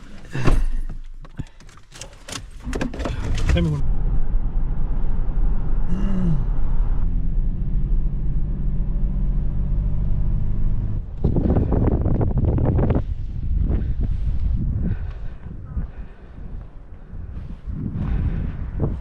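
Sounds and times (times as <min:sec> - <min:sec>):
engine running with low hum: 0:02.2 - 0:19.0.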